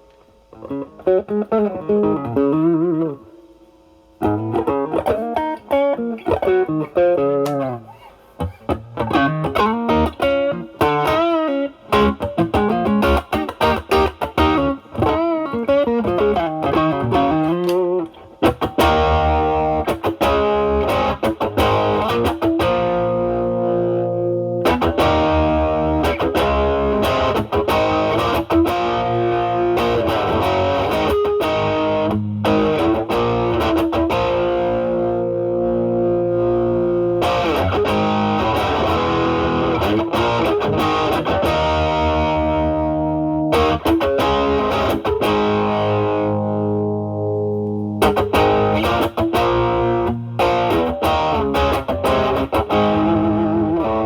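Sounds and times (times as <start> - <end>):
overdriven electric guitar: 0.0 - 54.0.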